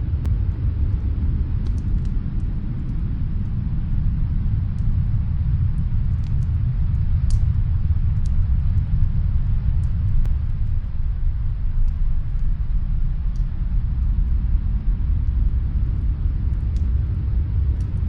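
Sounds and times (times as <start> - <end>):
snowstorm wind rumbling: 0.0 - 18.0
wood fire crackling: 0.0 - 18.0.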